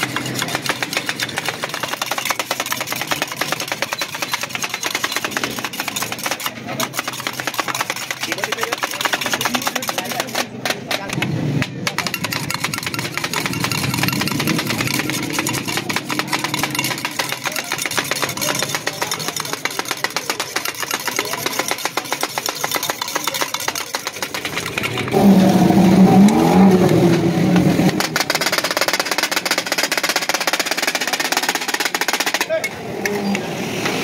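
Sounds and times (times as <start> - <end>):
engine-like hum: 0.0 - 34.0.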